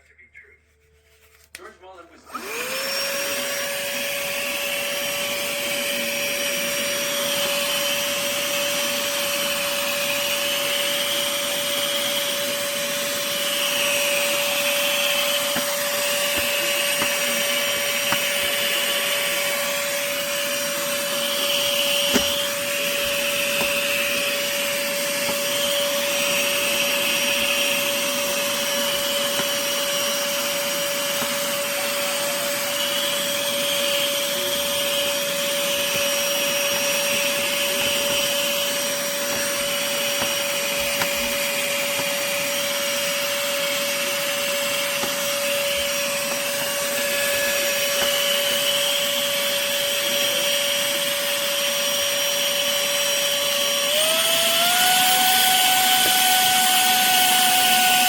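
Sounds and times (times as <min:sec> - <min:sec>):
handheld vacuum cleaner running: 0:02.3 - 0:58.0.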